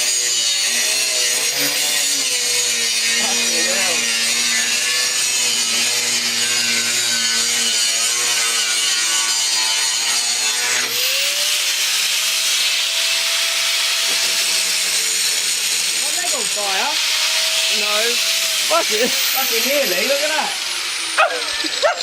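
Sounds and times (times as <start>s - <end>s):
angle grinder cutting metal: 0.0s - 22.0s.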